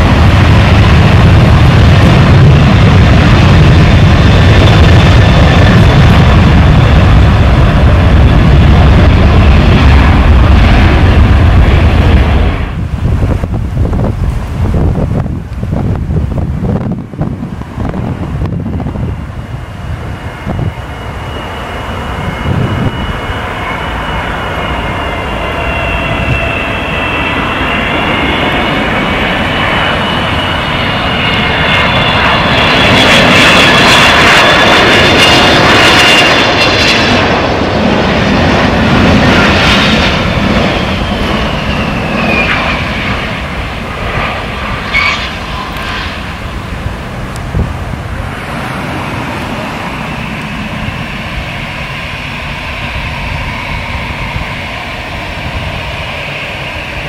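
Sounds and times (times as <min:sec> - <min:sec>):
jet airliner passing: 0:00.0 - 0:57.0.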